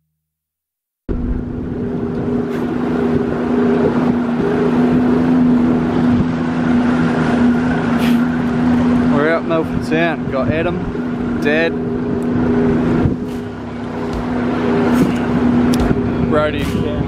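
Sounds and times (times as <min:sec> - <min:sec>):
boat engine humming: 0:01.1 - 0:17.0
wind on microphone: 0:01.1 - 0:17.0.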